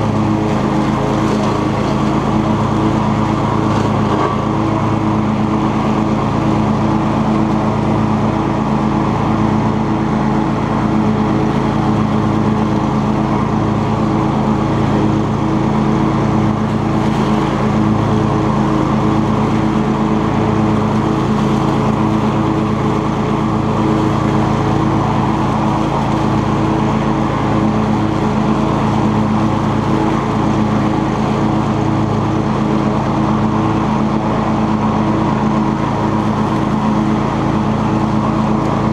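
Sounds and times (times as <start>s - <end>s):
lawn tractor engine mowing: 0.0s - 38.9s.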